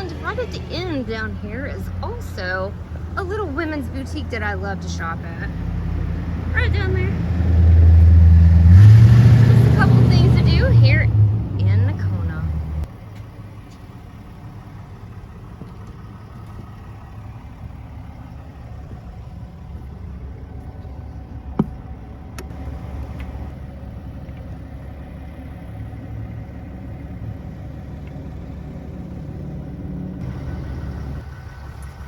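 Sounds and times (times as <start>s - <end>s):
motor vehicle engine idling: 0.0s - 32.0s.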